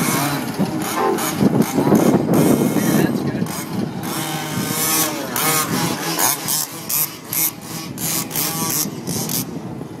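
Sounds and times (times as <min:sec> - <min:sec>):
rc car engines buzzing and revving: 0:00.0 - 0:09.6.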